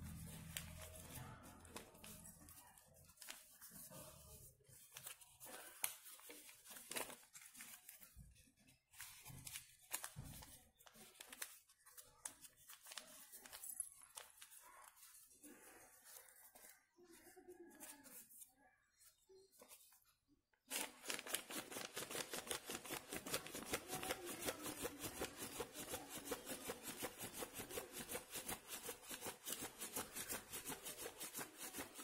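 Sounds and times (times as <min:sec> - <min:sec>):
paper wings fluttering: 0:00.0 - 0:15.2, 0:20.7 - 0:32.0.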